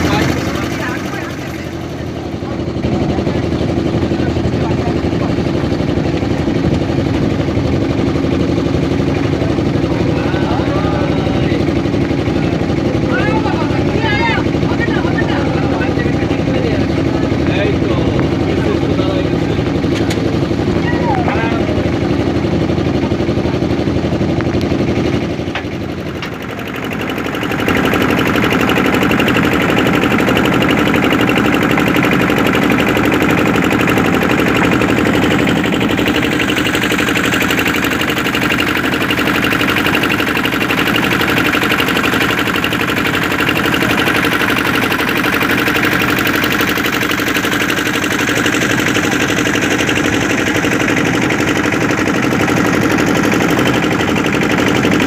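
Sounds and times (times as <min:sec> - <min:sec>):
boat engine chugging: 0:00.0 - 0:55.0.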